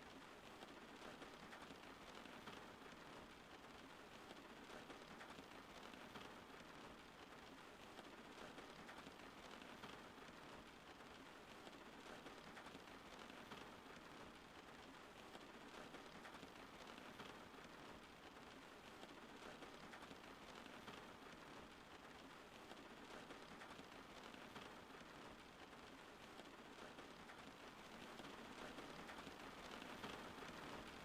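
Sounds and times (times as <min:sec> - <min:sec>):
raindrops pattering: 0:00.0 - 0:31.0.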